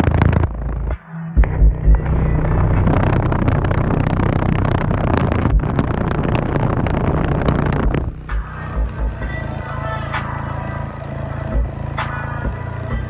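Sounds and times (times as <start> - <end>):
subwoofer playing loud bass: 0.0 - 13.0.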